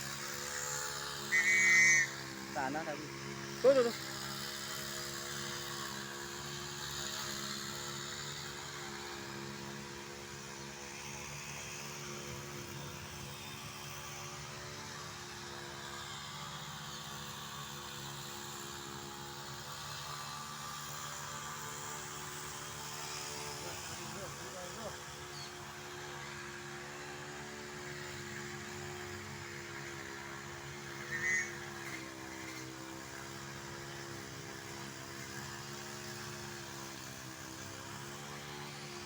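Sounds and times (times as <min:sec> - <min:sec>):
steady motor hum: 0:00.0 - 0:39.0.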